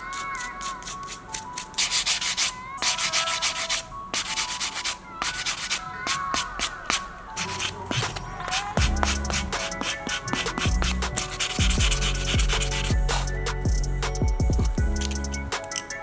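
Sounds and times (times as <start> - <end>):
sandpaper scraping: 0.0 - 13.6.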